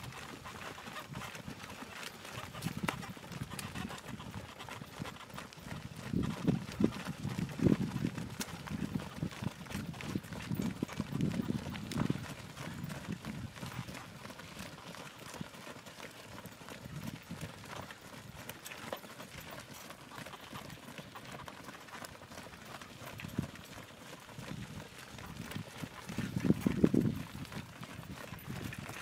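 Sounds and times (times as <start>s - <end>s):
cattle hooves trotting on dirt: 0.0s - 29.0s.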